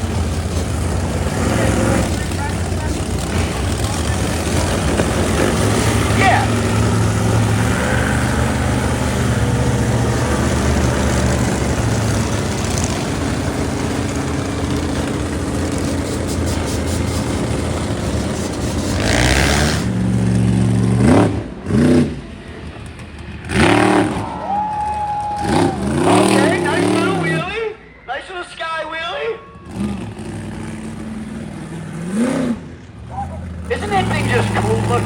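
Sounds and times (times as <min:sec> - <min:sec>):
monster truck engine revving: 0:00.0 - 0:27.8, 0:29.5 - 0:35.0.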